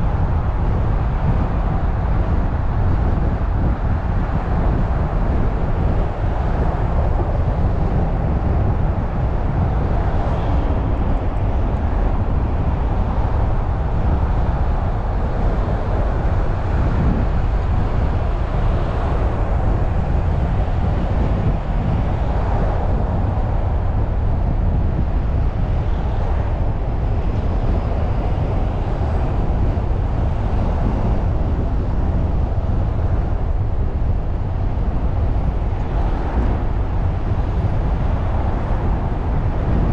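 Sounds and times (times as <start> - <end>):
car engine and tyre rumble: 0.0 - 39.9
surrounding traffic: 0.0 - 39.9.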